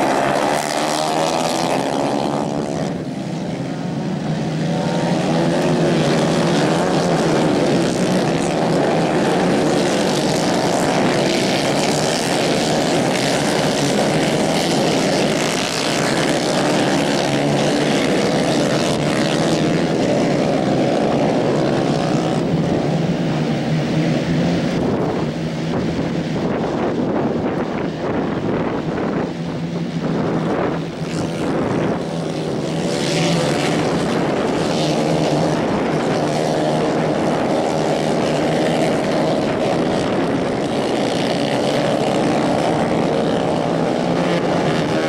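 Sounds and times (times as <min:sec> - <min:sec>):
racing kart engines: 0:00.0 - 0:45.0.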